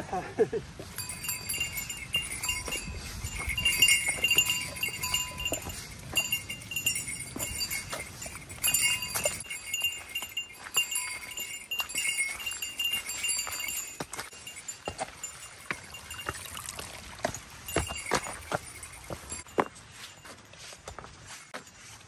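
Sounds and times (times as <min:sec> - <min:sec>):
bell jingling: 0:00.9 - 0:21.9.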